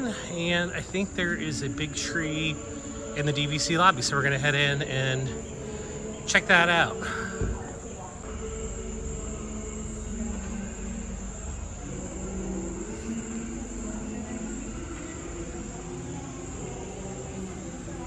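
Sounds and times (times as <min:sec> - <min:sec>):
insects trilling: 0:00.0 - 0:18.0
low steady hum: 0:00.0 - 0:18.0.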